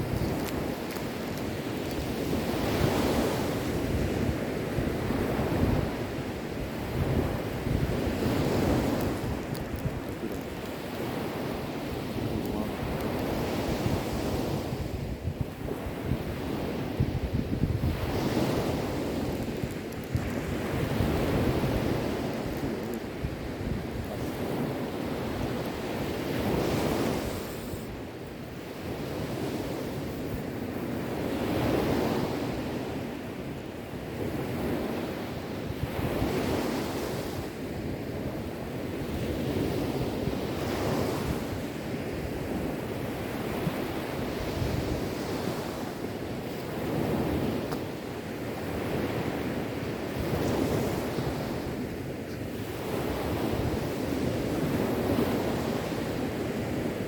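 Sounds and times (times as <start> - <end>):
sea waves washing on shore: 0.0 - 57.0
wind on microphone: 0.0 - 57.0.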